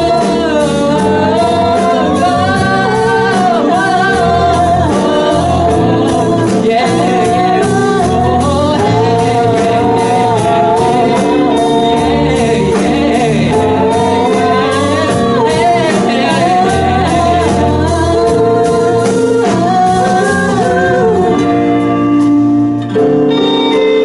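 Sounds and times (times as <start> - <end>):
sustained keyboard chords: 0.0 - 24.0.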